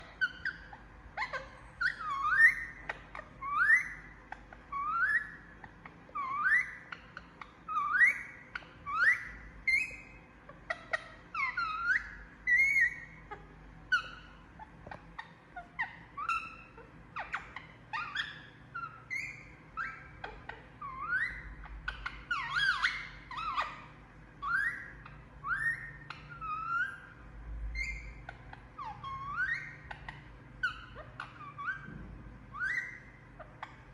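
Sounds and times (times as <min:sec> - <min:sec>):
parakeet squeaky chirps: 0:00.0 - 0:33.9.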